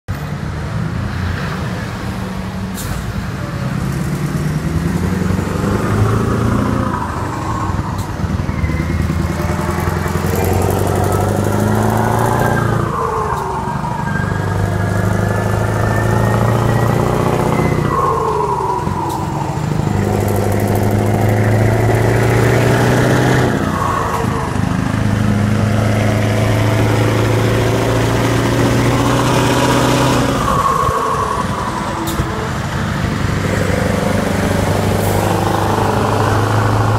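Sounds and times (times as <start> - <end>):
diesel truck accelerating: 0.0 - 36.9.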